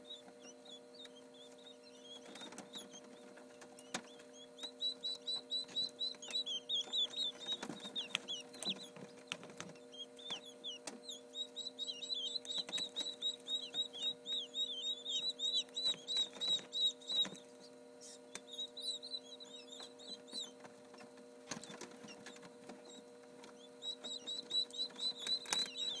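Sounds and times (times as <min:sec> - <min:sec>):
quail chicks peeping: 0:00.0 - 0:26.0
steady low hum: 0:00.0 - 0:26.0.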